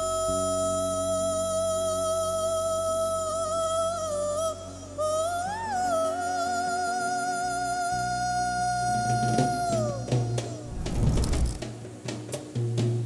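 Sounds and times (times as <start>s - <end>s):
high voice singing long notes: 0.0s - 11.6s.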